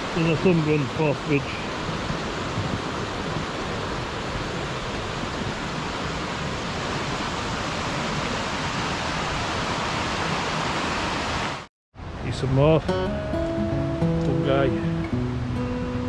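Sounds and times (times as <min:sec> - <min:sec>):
rushing stream water: 0:00.0 - 0:16.0.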